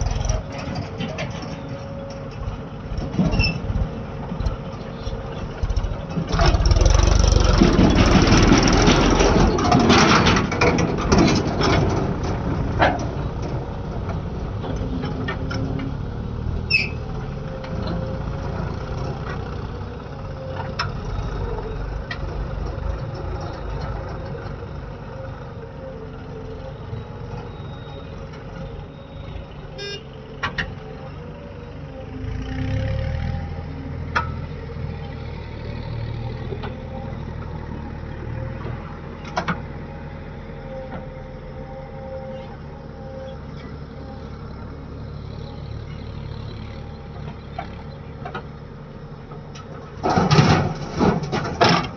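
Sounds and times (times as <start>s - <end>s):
heavy vehicle engine running: 0.0s - 51.9s.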